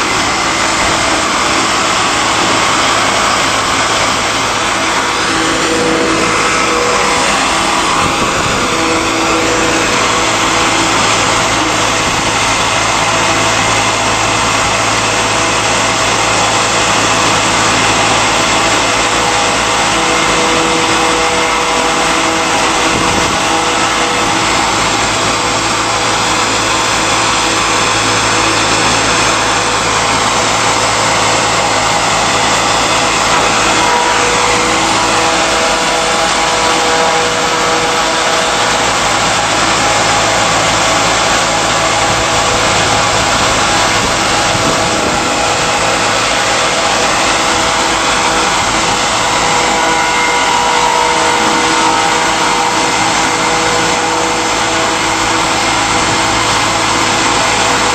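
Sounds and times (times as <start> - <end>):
stalk crusher grinding: 0.0 - 57.9.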